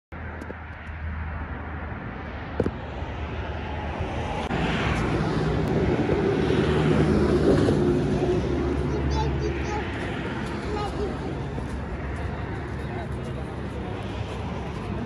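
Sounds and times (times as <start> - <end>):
low rumble of vehicles: 0.1 - 15.0.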